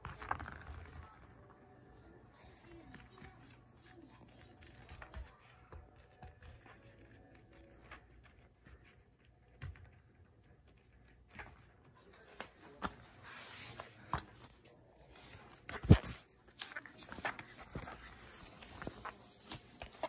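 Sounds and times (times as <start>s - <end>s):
puppy paws tapping on mats: 2.4s - 13.2s, 13.8s - 20.0s.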